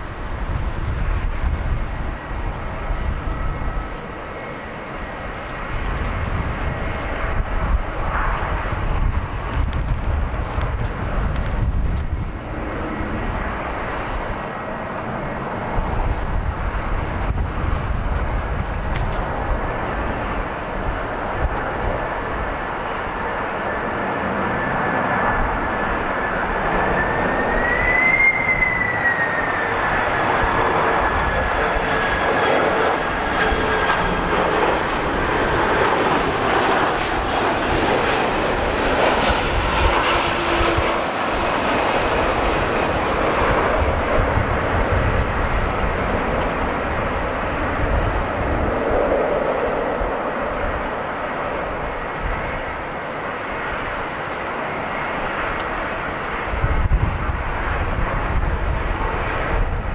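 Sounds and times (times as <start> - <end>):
high engine whine: 0.0 - 59.9
jet engines on approach: 0.0 - 59.9.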